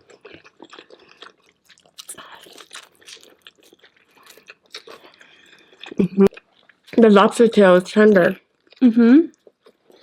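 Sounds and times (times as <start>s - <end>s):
biting and chewing food: 0.0s - 7.4s, 8.3s - 10.0s.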